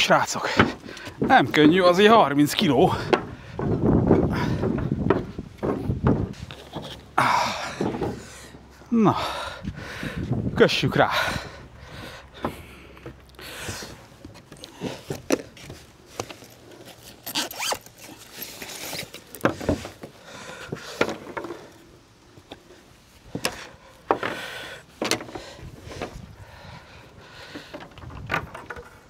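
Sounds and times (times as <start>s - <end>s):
cable scraping on wooden decking: 0.2s - 8.8s, 11.2s - 29.0s.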